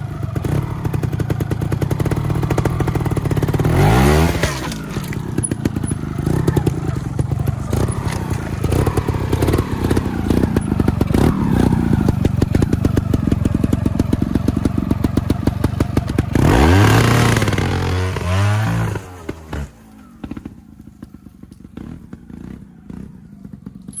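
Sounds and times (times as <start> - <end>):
motorcycle engine revving: 0.0 - 24.0
motorcycle engine running: 0.0 - 24.0.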